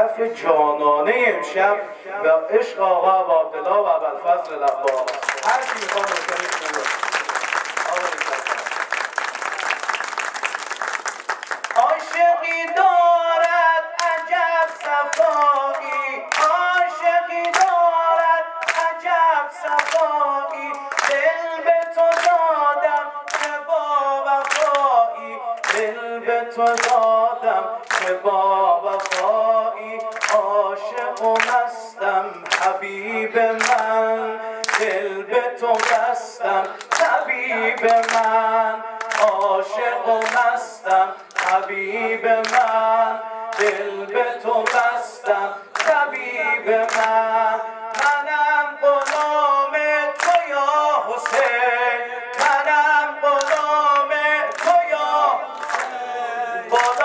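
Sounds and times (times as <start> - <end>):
man singing into microphone: 0.0 - 5.1, 11.8 - 57.0
hands clapping on the beat: 4.4 - 26.0, 26.6 - 28.3, 28.9 - 42.9, 43.5 - 56.0, 56.7 - 57.0.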